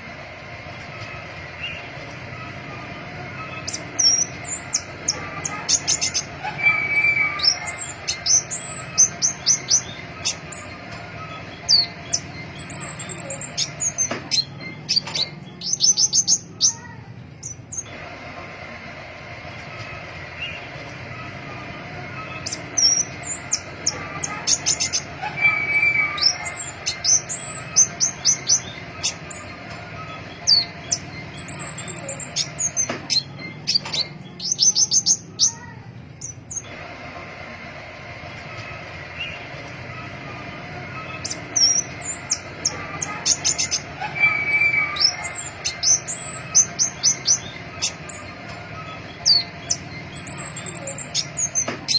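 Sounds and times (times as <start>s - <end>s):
high-pitched bird calls: 0.0s - 18.5s, 19.6s - 36.8s, 38.4s - 51.9s.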